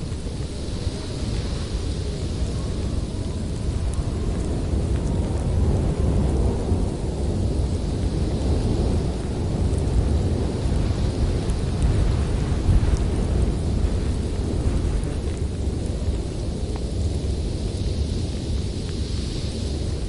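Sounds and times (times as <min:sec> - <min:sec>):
blizzard wind blowing hard: 0:00.0 - 0:20.0.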